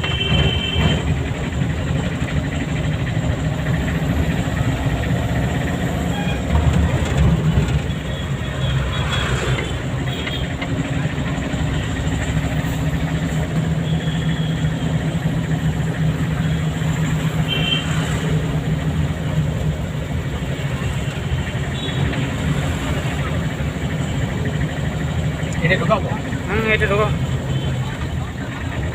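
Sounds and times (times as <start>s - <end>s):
car engine running: 0.0s - 28.9s
road noise: 0.0s - 28.9s.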